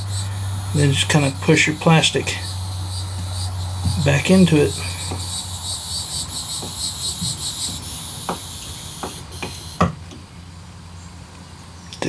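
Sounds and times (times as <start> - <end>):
steady buzz: 0.0 - 10.9
insects chirping: 0.0 - 12.0.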